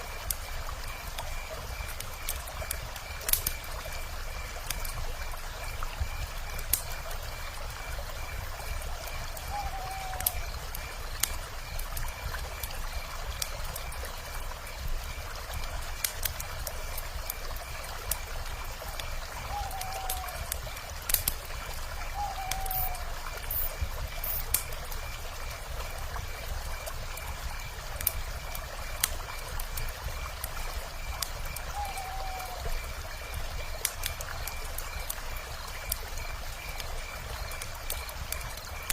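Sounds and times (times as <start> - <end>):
river water flowing: 0.0 - 38.9
wood fire crackling: 0.0 - 38.9.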